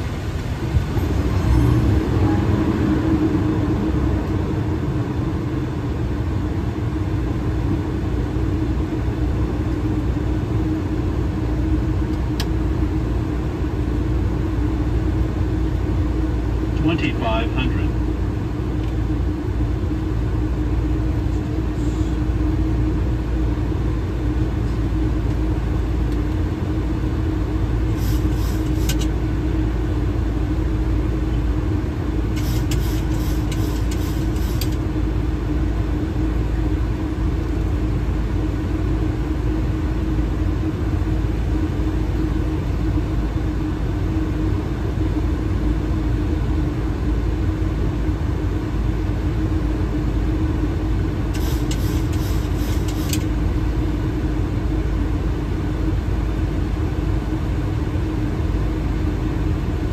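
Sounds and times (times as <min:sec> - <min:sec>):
low steady hum: 0:00.0 - 0:59.9
rush of air in cockpit: 0:00.0 - 0:59.9.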